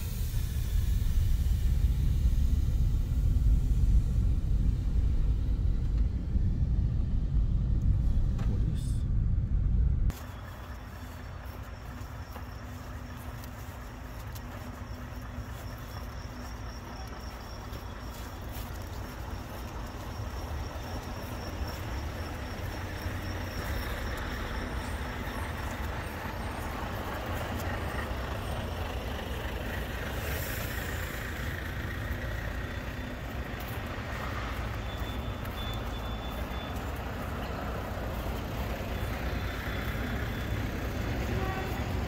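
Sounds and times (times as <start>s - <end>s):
truck diesel engines rumbling: 0.0s - 42.0s.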